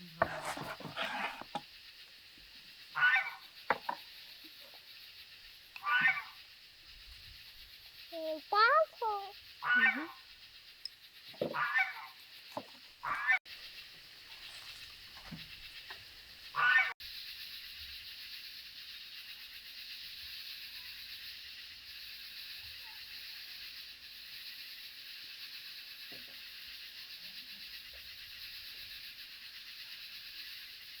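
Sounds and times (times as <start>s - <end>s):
high-pitched outdoor hiss: 0.0s - 31.0s.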